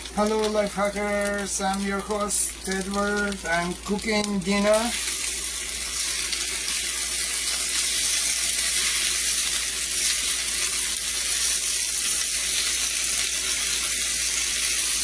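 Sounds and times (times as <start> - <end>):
potatoes frying in hot oil: 0.0 - 15.0.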